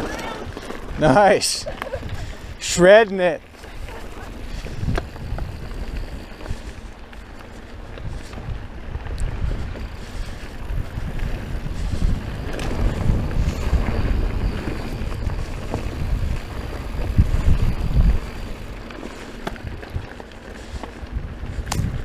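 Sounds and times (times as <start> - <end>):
wind buffeting microphone: 0.0 - 2.6, 3.4 - 22.0
mountain bike rolling on rocky trail: 0.0 - 22.0.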